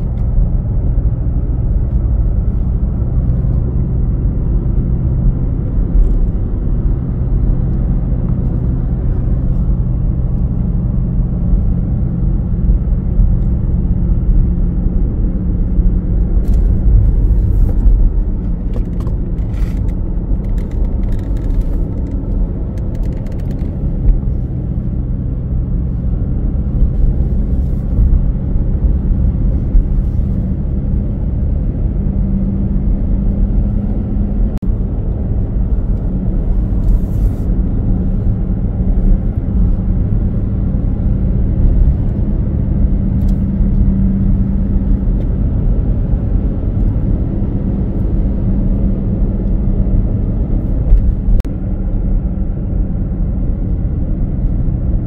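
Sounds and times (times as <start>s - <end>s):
truck engine and road rumble: 0.0s - 55.0s.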